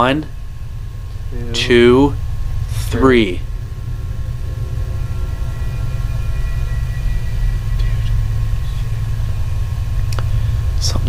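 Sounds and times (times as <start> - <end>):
faint whining tones: 0.0 - 11.0
low background rumble: 0.0 - 11.0.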